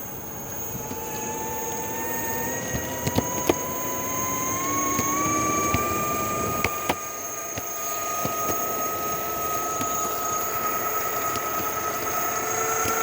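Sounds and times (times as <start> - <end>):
vehicle motor whining: 0.0 - 13.0.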